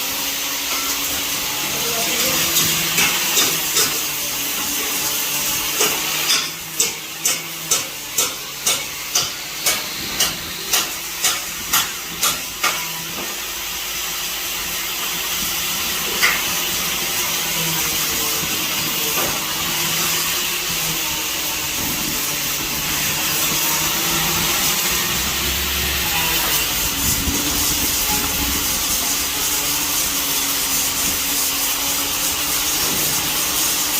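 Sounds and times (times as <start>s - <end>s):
arc welding crackling hiss: 0.0s - 33.9s.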